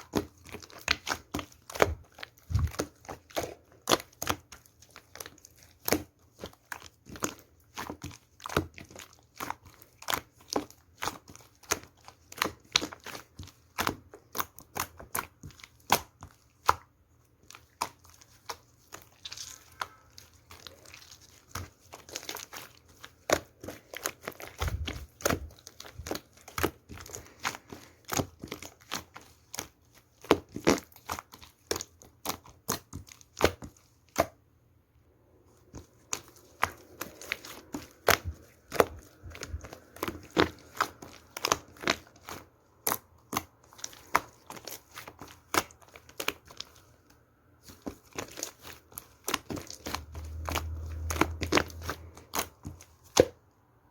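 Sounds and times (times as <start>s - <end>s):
slime crackling and popping: 0.0s - 34.4s, 35.7s - 53.4s.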